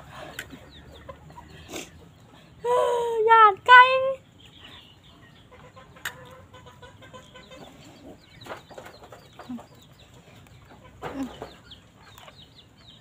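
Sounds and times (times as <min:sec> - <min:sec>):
chickens clucking: 0:00.0 - 0:02.8, 0:04.3 - 0:13.0.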